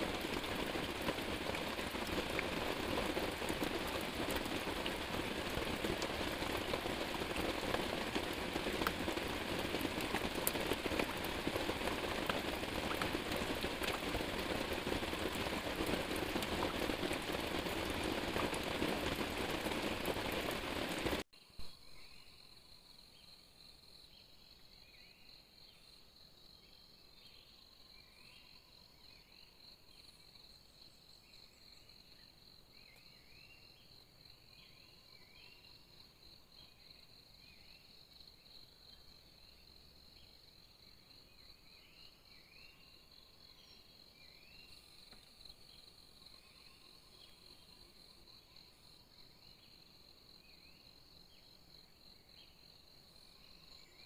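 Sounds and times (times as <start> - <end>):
insect chirping calls: 0.0 - 54.0.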